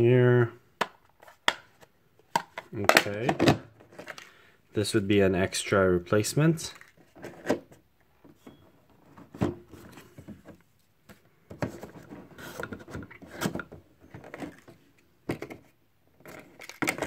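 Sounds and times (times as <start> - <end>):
plastic tray and cardboard handling: 0.8 - 4.3, 6.6 - 17.0.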